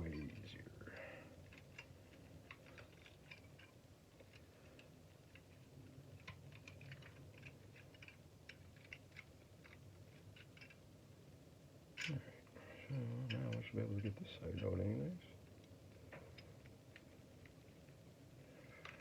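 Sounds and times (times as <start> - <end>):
small metal clicks and ticks: 0.0 - 19.0.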